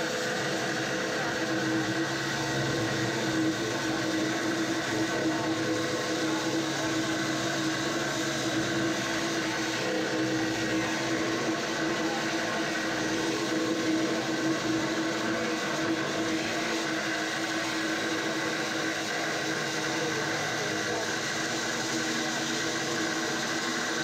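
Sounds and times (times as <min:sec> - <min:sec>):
angle grinder grinding steel: 0:00.0 - 0:24.0.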